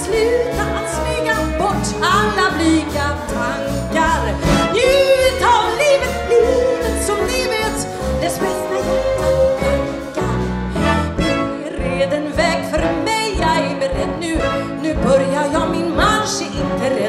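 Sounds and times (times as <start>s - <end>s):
small orchestra playing: 0.0s - 17.0s
woman singing with vibrato: 0.0s - 17.0s.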